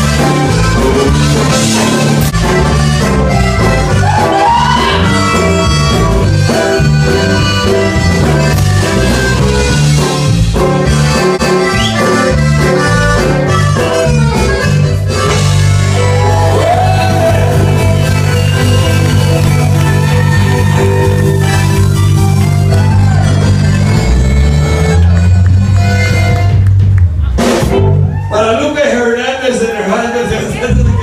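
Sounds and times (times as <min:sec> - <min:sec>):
accordion melody: 0:00.0 - 0:28.0
regular beat: 0:00.0 - 0:29.3
bass line: 0:00.0 - 0:31.0.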